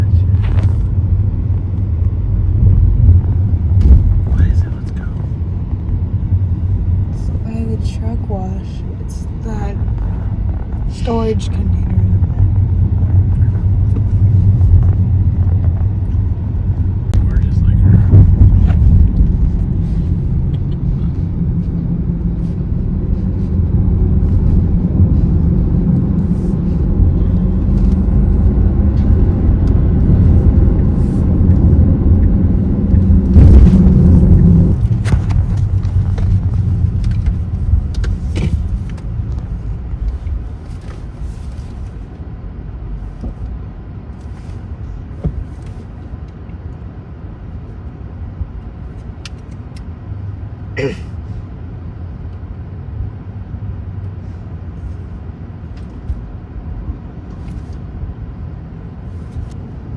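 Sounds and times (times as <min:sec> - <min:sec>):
car rumbling on the move: 0:00.0 - 0:59.9.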